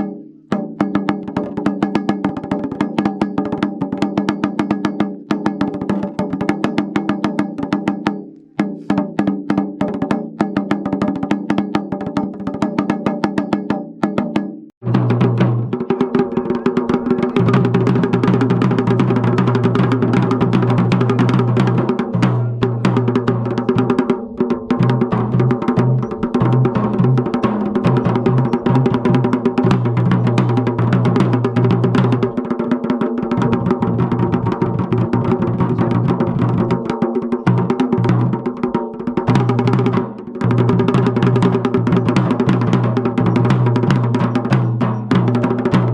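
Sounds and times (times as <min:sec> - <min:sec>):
folk drums playing fast rhythm: 0:00.0 - 0:45.9.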